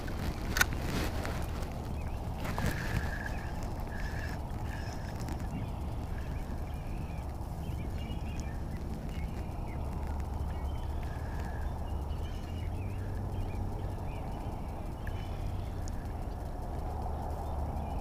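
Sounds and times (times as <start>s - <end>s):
birds calling: 0.0s - 18.0s
low rumble: 0.0s - 18.0s.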